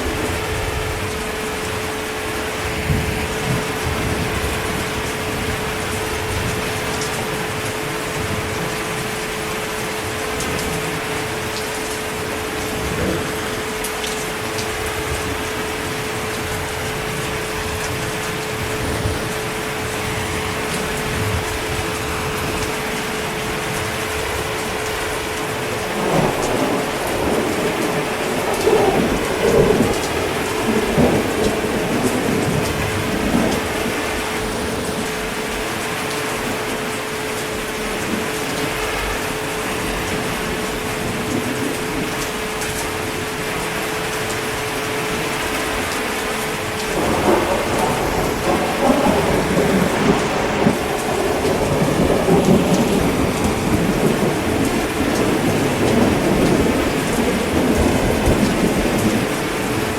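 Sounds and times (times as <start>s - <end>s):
thunder rumbling: 0.0s - 44.4s, 45.0s - 59.9s
heavy rain: 0.0s - 59.9s.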